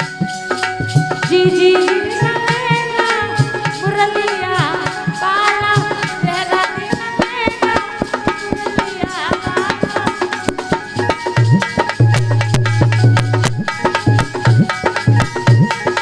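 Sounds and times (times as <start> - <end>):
hand drums beating: 0.0 - 16.0
wavering melody: 0.0 - 16.0.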